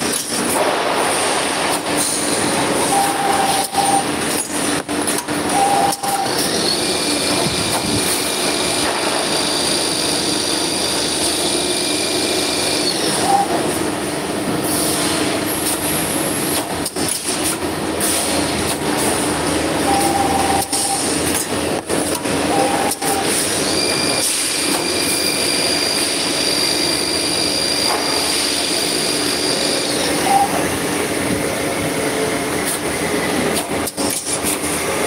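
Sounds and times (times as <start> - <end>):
machine running with metallic whine: 0.0 - 35.0.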